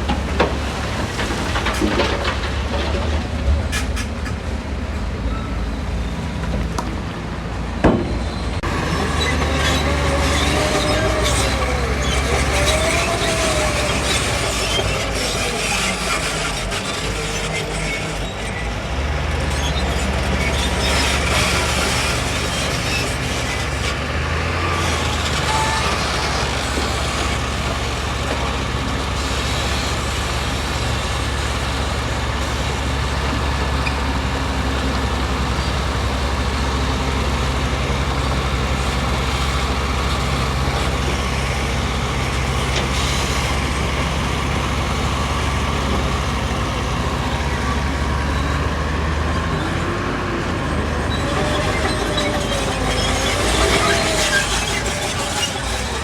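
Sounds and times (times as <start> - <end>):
diesel construction machine droning: 0.0 - 56.0.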